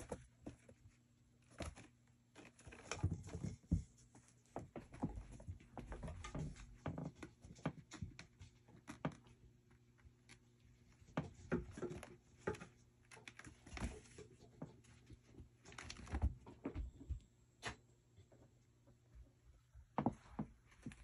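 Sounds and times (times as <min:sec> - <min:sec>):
kitten paws tapping and scuffling: 0:00.0 - 0:17.8, 0:19.9 - 0:21.0.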